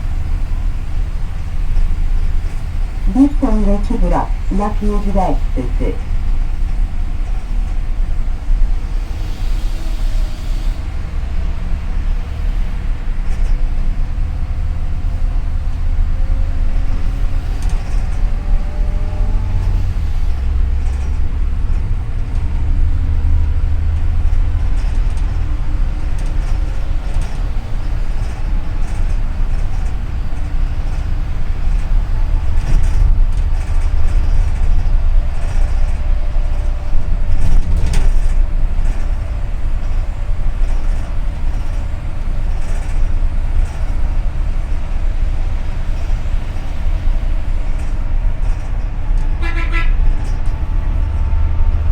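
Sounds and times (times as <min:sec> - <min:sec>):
bus engine and road rumble: 0:00.0 - 0:51.9.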